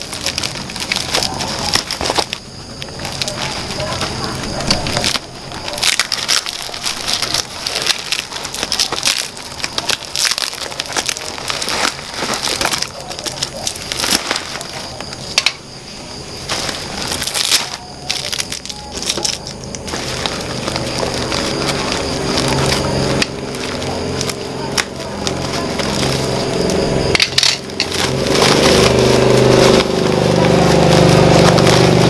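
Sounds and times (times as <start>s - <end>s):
plastic sack crackling and rustling: 0.0s - 32.0s.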